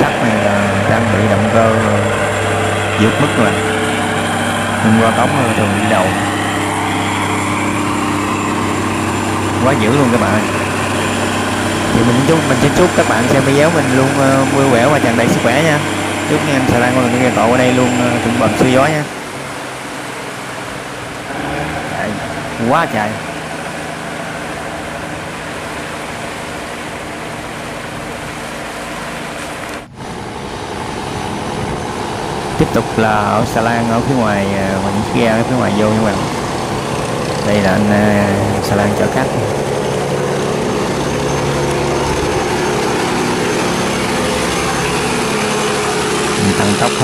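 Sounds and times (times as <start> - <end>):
boat engine droning: 0.0 - 47.0
turbulent water rushing: 0.0 - 47.0.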